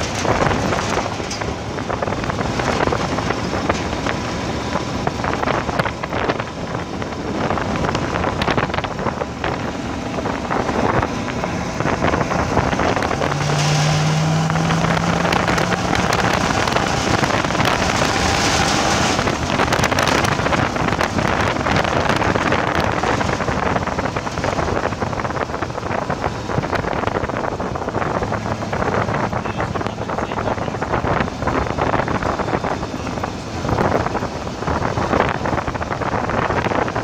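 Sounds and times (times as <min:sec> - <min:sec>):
gravel road crackles: 0:00.0 - 0:37.0
wind buffeting microphone: 0:00.0 - 0:37.0.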